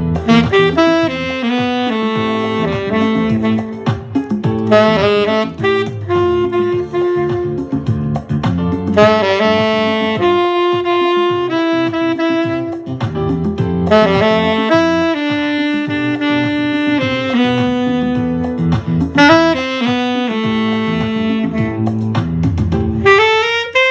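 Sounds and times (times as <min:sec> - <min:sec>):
bass line accompaniment: 0:00.0 - 0:23.9
saxophone jazz melody: 0:00.0 - 0:23.9.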